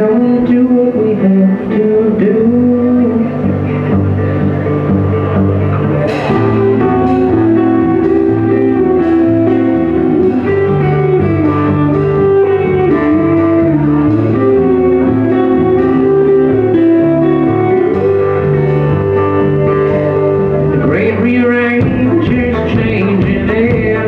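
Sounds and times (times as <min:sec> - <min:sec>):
country band playing: 0:00.0 - 0:24.0
sliding lead guitar line: 0:00.0 - 0:24.0.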